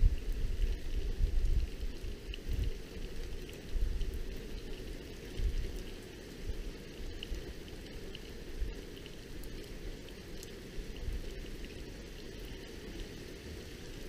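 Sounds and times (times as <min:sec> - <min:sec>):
rain falling steadily: 0:00.0 - 0:14.0.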